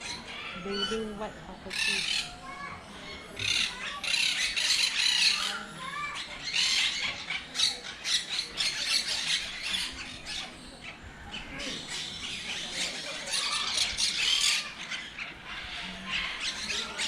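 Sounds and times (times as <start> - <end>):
parrots squawking: 0.0 - 17.0.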